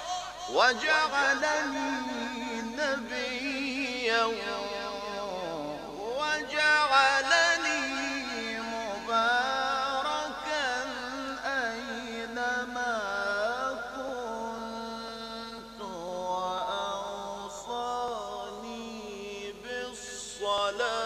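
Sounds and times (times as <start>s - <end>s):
man chanting melodically: 0.0s - 21.0s.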